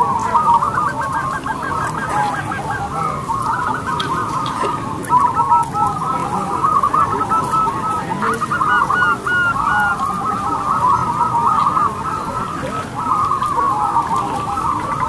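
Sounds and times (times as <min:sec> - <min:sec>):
doves cooing chorus: 0:00.0 - 0:15.0.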